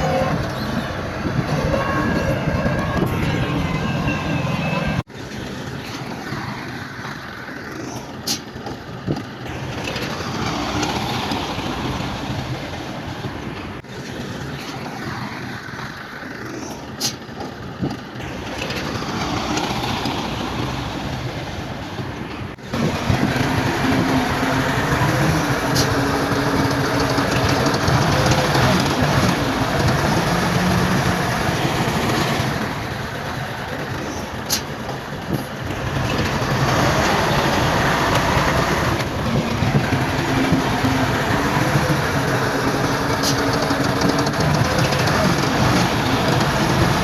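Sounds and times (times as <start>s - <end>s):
bulldozer diesel engine: 0.0s - 47.0s
steel tracks clattering: 0.0s - 47.0s.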